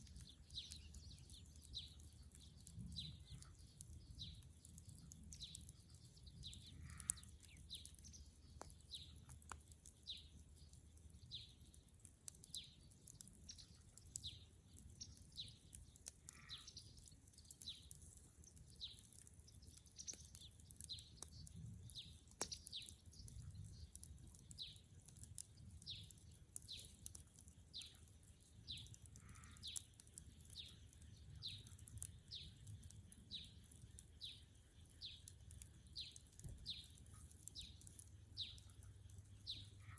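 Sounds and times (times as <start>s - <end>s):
faint bird chirping: 0.0s - 11.8s, 12.4s - 39.9s
wood fire popping: 0.0s - 39.9s.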